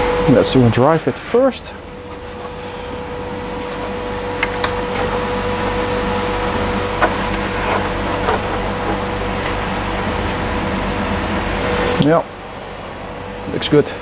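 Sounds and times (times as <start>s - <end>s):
machine hum with high whine: 0.0s - 14.0s.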